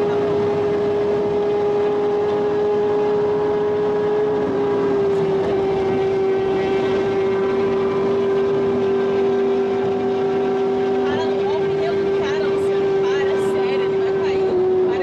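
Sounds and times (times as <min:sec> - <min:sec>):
car engine drone: 0:00.0 - 0:15.0
wind and road noise: 0:00.0 - 0:15.0.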